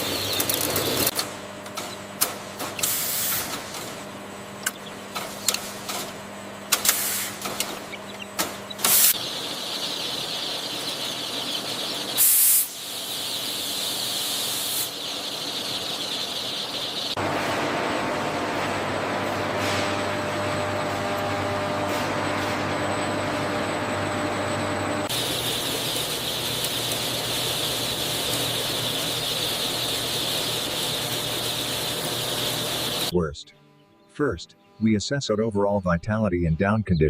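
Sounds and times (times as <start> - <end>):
machinery humming: 0.0 - 36.8.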